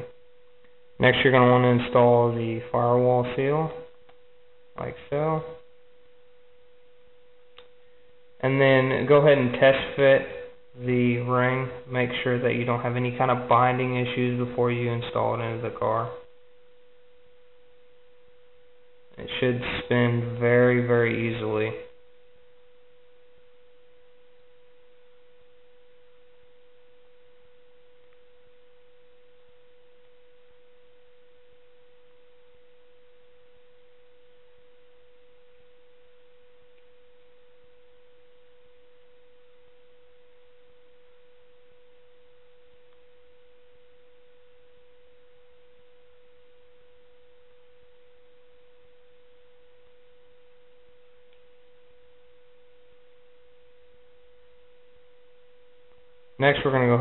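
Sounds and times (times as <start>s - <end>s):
low hiss: 0.0s - 57.0s.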